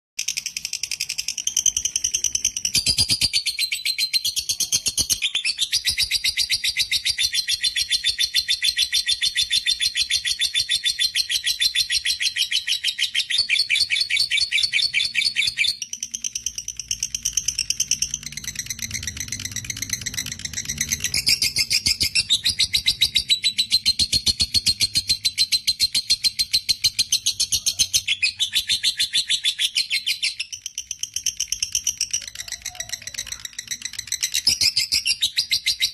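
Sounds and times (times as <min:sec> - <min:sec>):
lovebird chattering trill: 0:00.2 - 0:35.9.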